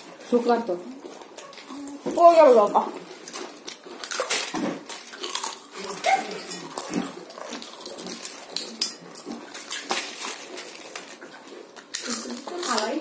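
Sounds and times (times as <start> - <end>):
people crunching potato chips: 0.0 - 13.0.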